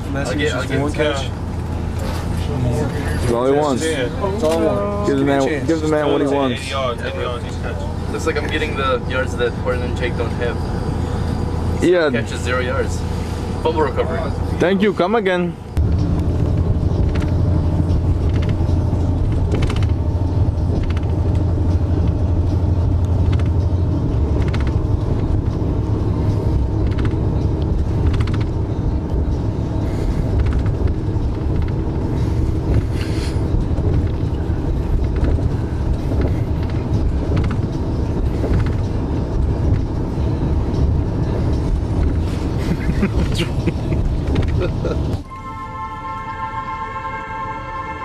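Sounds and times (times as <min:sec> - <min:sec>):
bus cabin rumble: 0:00.0 - 0:48.0.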